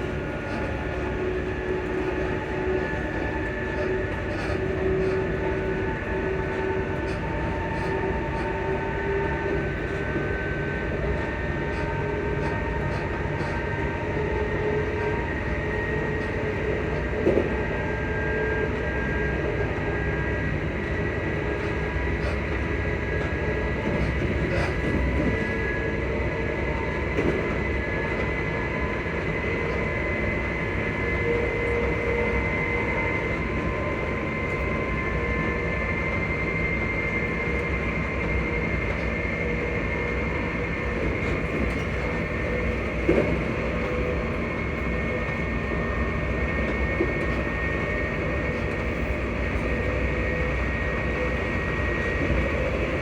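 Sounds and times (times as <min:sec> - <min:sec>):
train traction motor whine: 0:00.0 - 0:53.0
wheels rumbling on track: 0:00.0 - 0:53.0.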